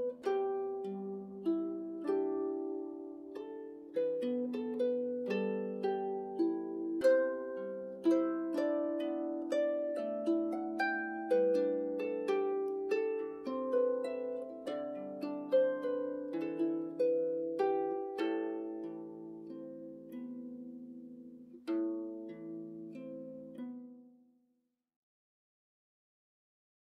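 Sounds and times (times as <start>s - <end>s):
harp playing: 0.0s - 24.1s.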